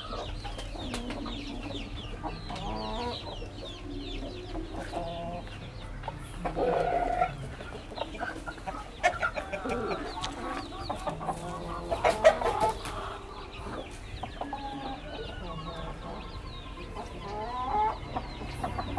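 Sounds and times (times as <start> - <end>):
chickens clucking and calling: 0.0 - 18.9.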